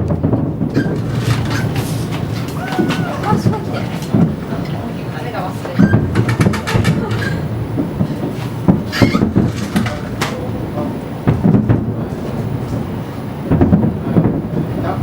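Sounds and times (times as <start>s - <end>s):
continuous rumble: 0.0s - 15.0s
fireworks booms and cracks: 0.0s - 15.0s.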